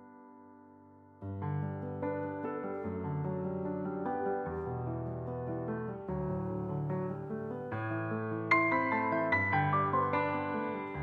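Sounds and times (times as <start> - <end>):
instrumental music with chords: 0.0 - 11.0.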